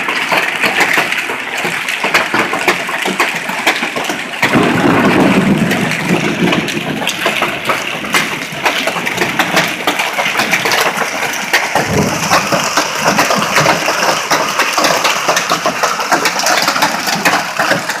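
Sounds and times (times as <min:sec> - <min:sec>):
hail clattering: 0:00.0 - 0:18.0.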